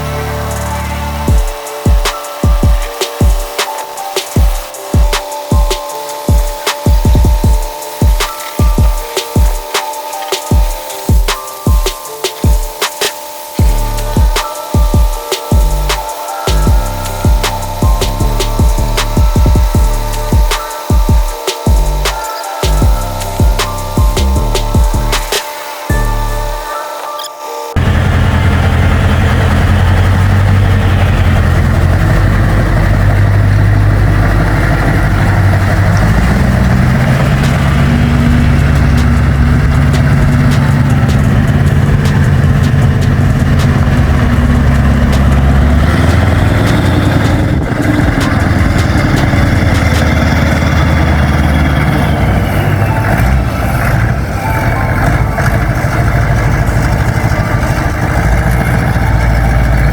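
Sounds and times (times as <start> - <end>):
diesel engine running: 0.0 - 26.7, 27.8 - 59.9.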